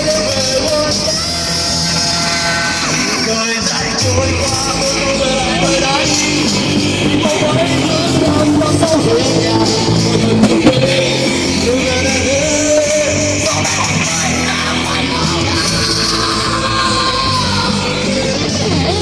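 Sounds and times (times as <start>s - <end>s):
drums: 0.0s - 19.0s
electric guitars: 0.0s - 19.0s
person singing: 0.0s - 19.0s.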